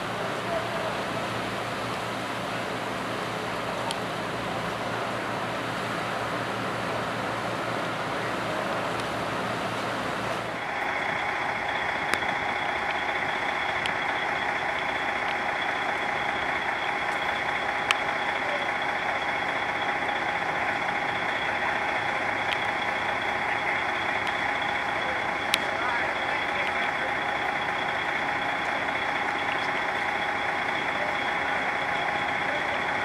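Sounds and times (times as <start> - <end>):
engine idling: 0.0 - 33.0
windy watery haze: 0.0 - 33.0.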